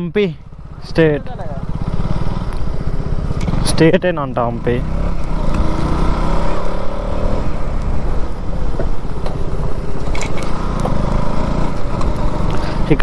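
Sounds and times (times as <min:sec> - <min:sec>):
motorcycle engine running: 0:00.0 - 0:13.0
rushing road noise: 0:00.0 - 0:13.0.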